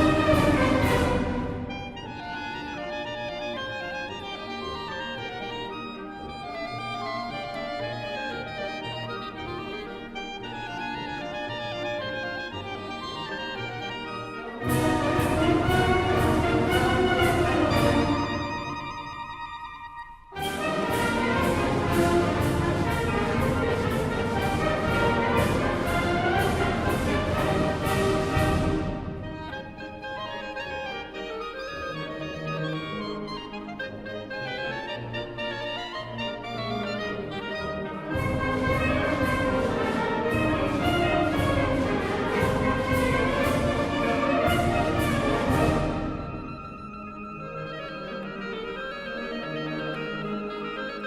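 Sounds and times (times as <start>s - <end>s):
wind band playing: 0.0s - 51.0s.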